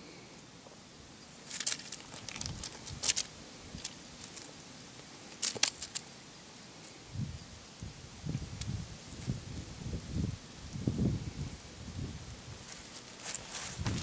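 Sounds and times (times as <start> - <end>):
crackling rustles on dry leaves: 0.1 - 14.0.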